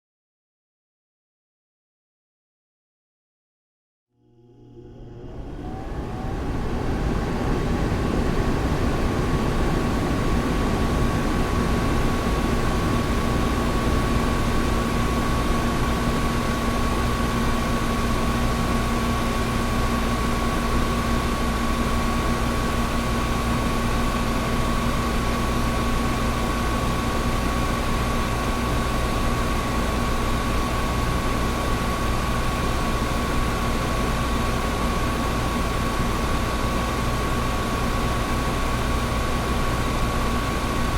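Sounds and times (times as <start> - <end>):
air conditioner running: 4.2 - 40.9.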